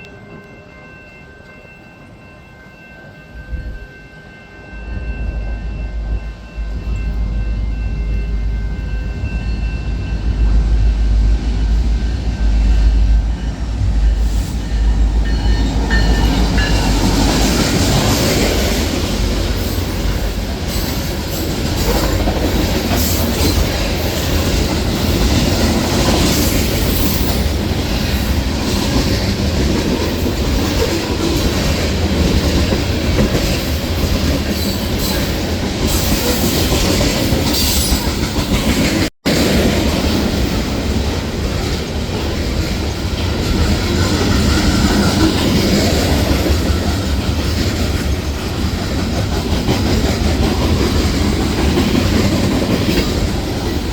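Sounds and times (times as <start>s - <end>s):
rail cars rolling past: 0.0s - 53.9s
train engine rumble: 0.0s - 53.9s.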